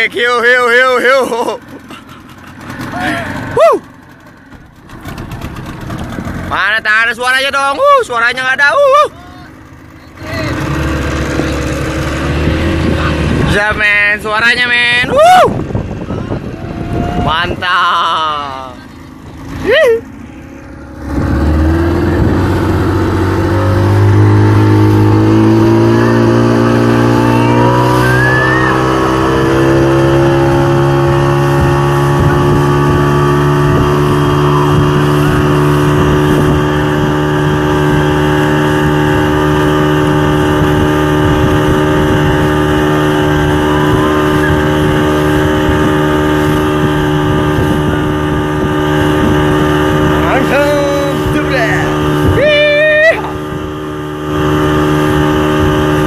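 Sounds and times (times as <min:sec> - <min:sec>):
motorboat engine: 0:00.0 - 0:56.0
wind and water rushing: 0:02.4 - 0:56.0.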